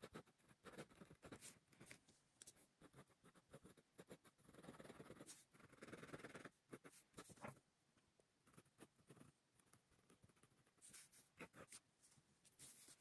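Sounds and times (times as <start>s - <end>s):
ballpoint pen scratching on paper: 0.0s - 7.6s, 8.4s - 11.8s, 12.5s - 13.0s.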